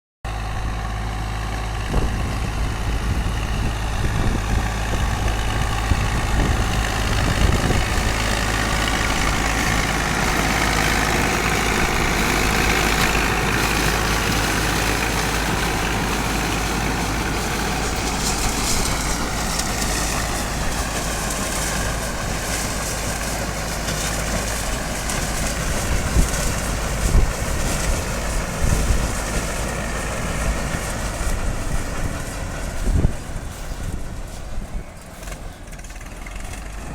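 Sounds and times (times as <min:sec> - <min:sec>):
harvester machinery noise: 0:00.3 - 0:36.9
tractor diesel engine running: 0:00.3 - 0:36.9
fast machinery rattle: 0:01.8 - 0:36.9.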